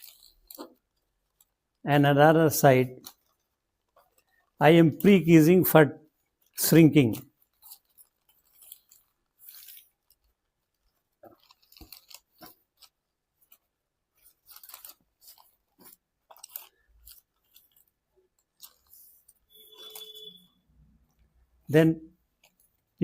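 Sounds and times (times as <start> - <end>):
paper crinkling and rustling: 0.0 - 1.8, 2.6 - 5.2, 6.2 - 21.6, 22.2 - 23.0.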